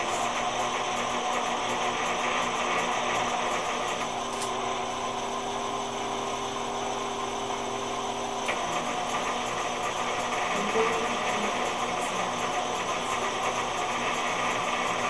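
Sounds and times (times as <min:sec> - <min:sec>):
light bar motors whirring: 0:00.0 - 0:15.0.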